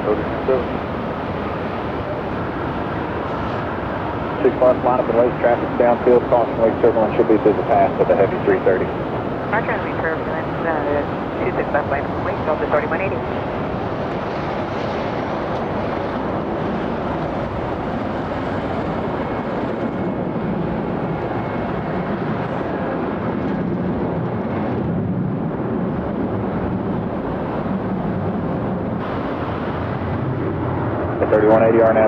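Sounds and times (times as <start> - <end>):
jet engine at takeoff power: 0.0 - 32.0.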